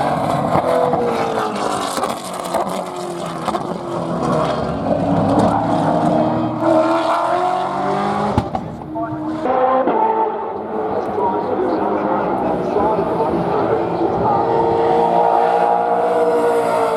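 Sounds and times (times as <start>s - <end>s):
race car engine at high revs: 0.0s - 16.9s.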